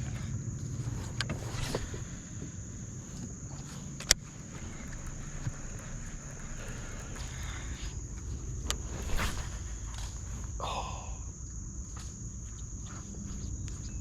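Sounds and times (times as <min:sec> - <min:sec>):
high-pitched insect drone: 0:00.0 - 0:14.0
low rumble: 0:00.4 - 0:14.0.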